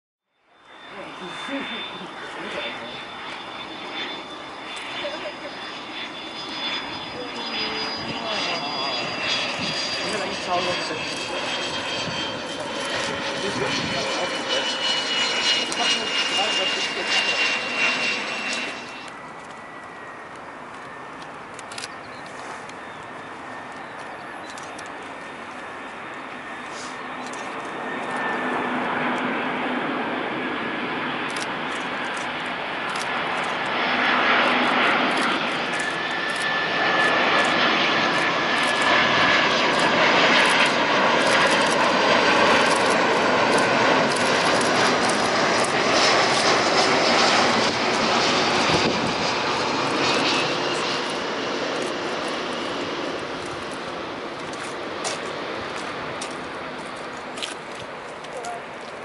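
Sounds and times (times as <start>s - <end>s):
jet airliner roar and whine: 0.2s - 59.0s.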